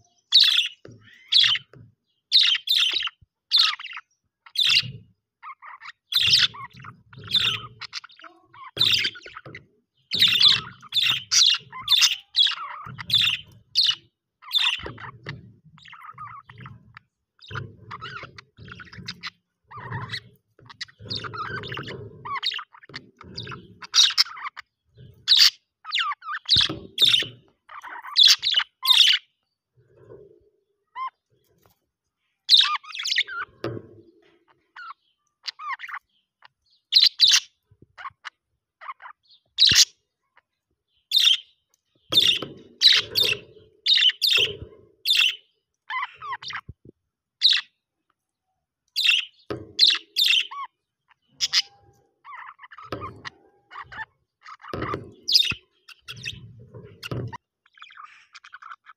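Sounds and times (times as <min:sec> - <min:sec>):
budgerigars chirping: 0:00.3 - 0:29.3, 0:32.4 - 0:46.8, 0:47.4 - 0:47.8, 0:48.9 - 0:58.9.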